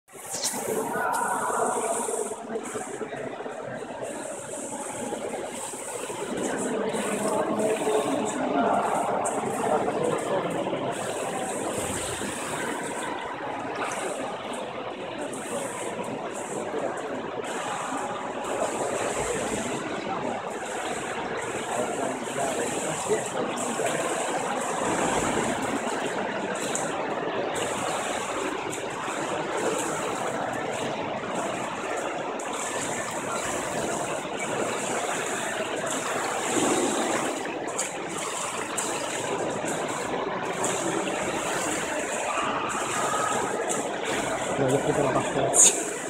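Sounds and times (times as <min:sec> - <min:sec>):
swimming pool hall noise: 0:00.0 - 0:46.0
water sloshing and splashing: 0:00.1 - 0:46.0.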